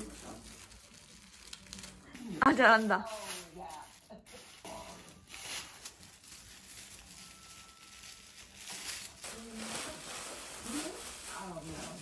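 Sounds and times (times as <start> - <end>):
plastic sleeves rustling: 0.0 - 12.0.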